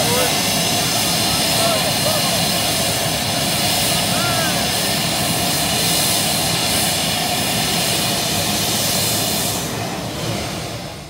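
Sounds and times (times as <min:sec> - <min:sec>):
jet engine running: 0:00.0 - 0:11.0.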